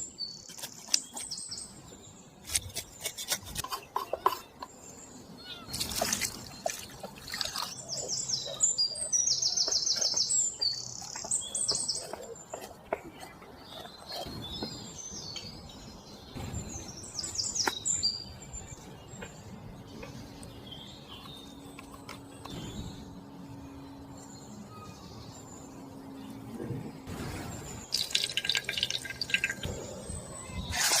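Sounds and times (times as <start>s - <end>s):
songbirds trilling and chirping: 0.0s - 31.0s.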